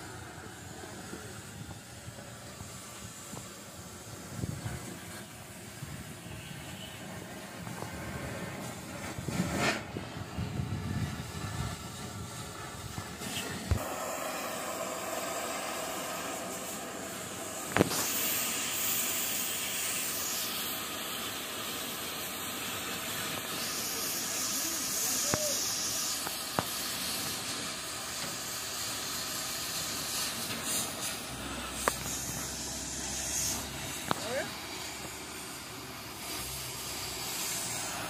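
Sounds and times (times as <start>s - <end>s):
cutting torch hissing: 0.0s - 38.0s.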